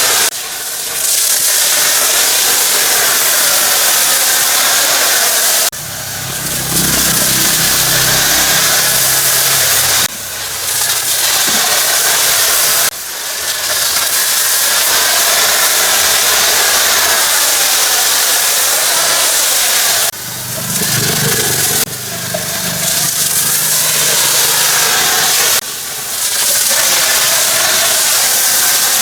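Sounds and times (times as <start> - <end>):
pressure washer spray hissing: 0.0 - 29.0
pressure washer motor droning: 2.8 - 29.0.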